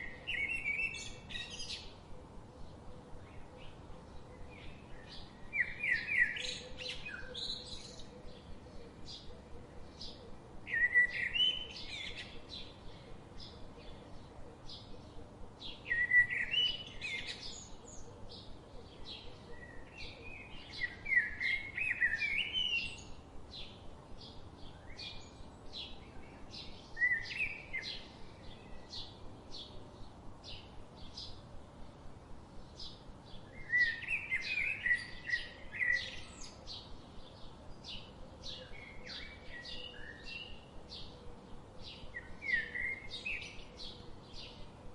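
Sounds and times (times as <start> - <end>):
bird warbling song: 0.0 - 2.0, 2.6 - 31.4, 32.6 - 44.9.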